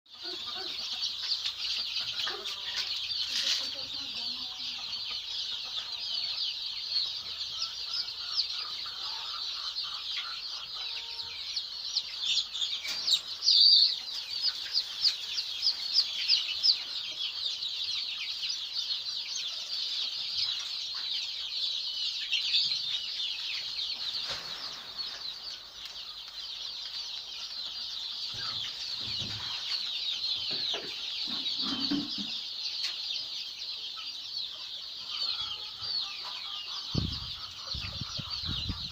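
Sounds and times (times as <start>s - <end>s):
chicks peeping: 0.1s - 38.9s.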